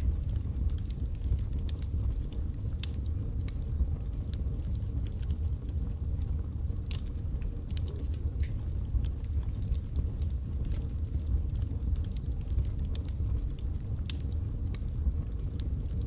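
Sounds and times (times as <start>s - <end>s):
logs crackling and popping: 0.0s - 16.0s
low rumble of fire: 0.0s - 16.0s.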